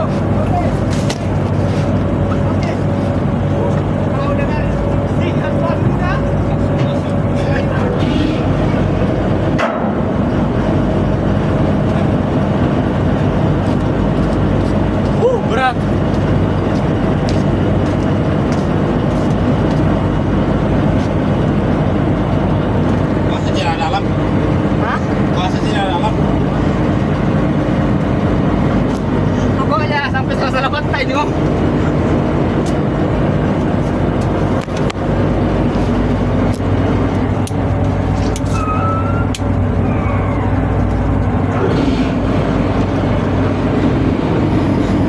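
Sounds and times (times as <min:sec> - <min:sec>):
heavy machinery deep hum: 0:00.0 - 0:45.0
loud even machinery noise: 0:00.0 - 0:45.0.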